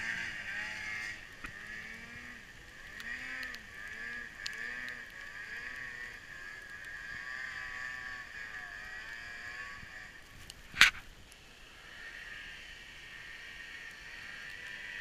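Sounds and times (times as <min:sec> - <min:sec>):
snowmobile engine revving: 0:00.0 - 0:10.9, 0:11.7 - 0:15.0.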